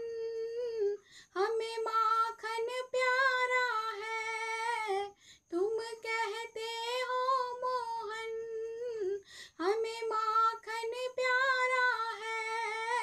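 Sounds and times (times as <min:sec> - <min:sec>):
woman singing devotional song: 0:00.0 - 0:13.0.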